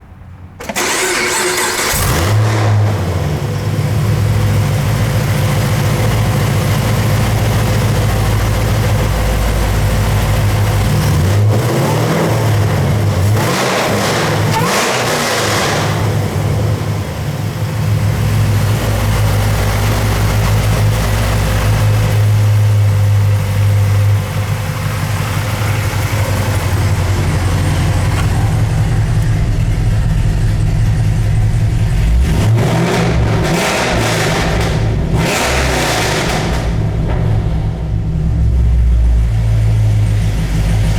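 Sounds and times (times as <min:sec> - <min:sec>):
car engine idling and revving: 0:00.0 - 0:40.9
car engine starting: 0:00.0 - 0:40.9.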